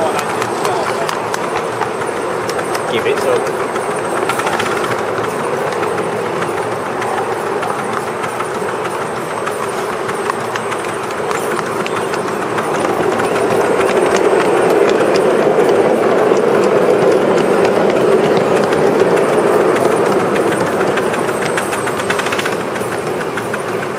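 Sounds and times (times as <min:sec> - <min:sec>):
miniature steam train running: 0:00.0 - 0:23.9
wheels clicking on track: 0:00.0 - 0:23.9.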